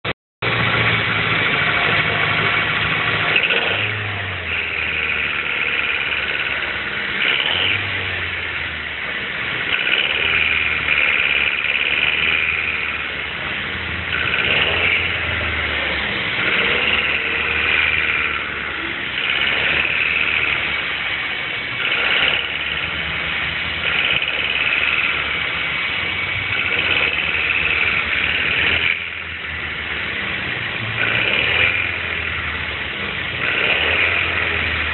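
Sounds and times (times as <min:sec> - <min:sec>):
car engine knocking rattle: 0:00.4 - 0:08.5, 0:09.1 - 0:15.4, 0:16.3 - 0:21.0, 0:21.6 - 0:30.2, 0:31.0 - 0:32.4, 0:33.2 - 0:34.9.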